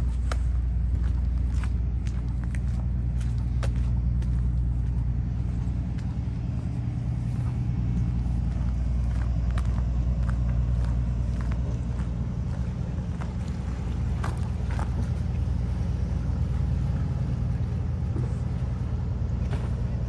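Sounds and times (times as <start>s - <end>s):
large engine droning: 0.0s - 20.0s.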